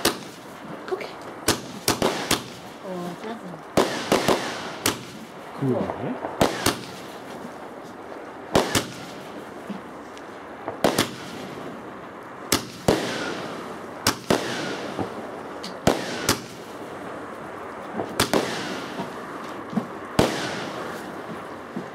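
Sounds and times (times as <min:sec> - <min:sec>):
fireworks bangs: 0:00.0 - 0:21.9
fireworks crackling hiss: 0:00.0 - 0:21.9.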